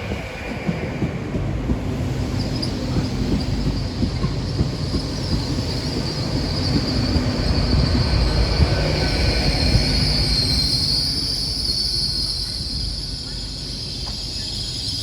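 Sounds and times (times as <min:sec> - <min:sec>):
train rumbling: 0:00.0 - 0:15.0
high-pitched metallic squeal: 0:02.3 - 0:15.0.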